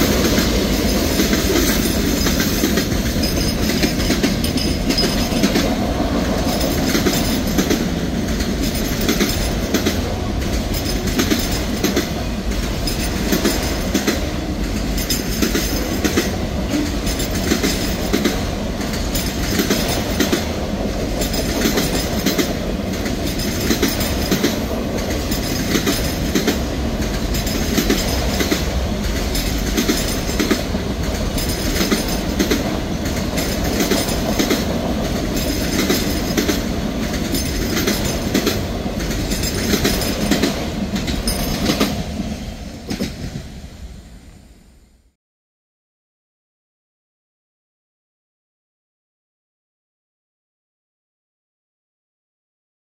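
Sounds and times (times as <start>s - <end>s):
wheels clacking on rail joints: 0.0s - 43.4s
freight train rolling past: 0.0s - 45.2s.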